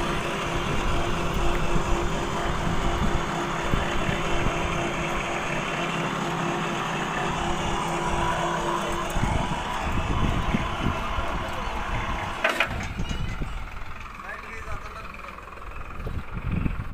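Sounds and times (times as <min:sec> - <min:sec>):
machine motor hum: 0:00.0 - 0:16.6.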